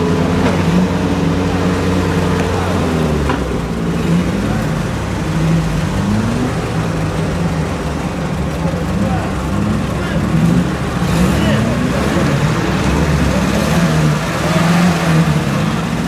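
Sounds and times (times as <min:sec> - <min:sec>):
engine idling and revving: 0:00.0 - 0:16.0.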